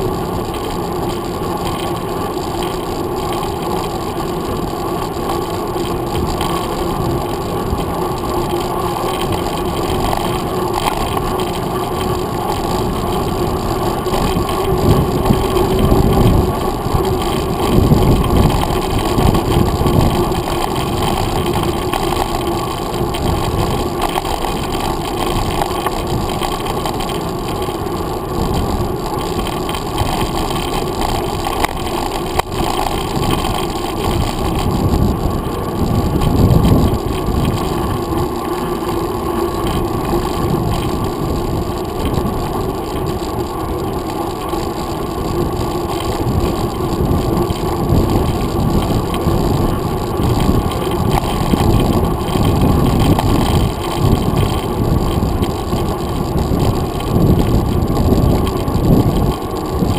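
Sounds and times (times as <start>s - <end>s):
bike tyres rumbling on road: 0.0s - 59.9s
wind rush: 6.0s - 27.1s, 27.7s - 44.2s, 44.8s - 59.9s.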